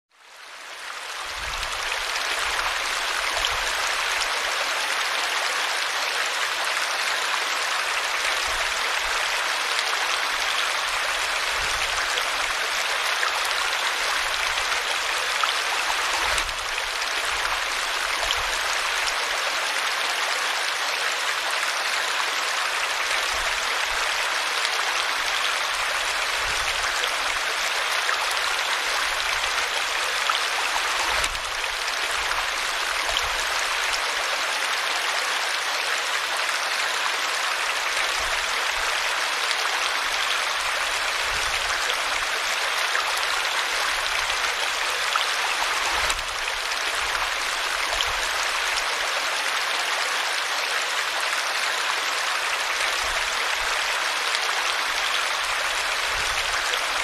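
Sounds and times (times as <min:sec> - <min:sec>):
stream water pouring over rocks: 0:00.4 - 0:57.0.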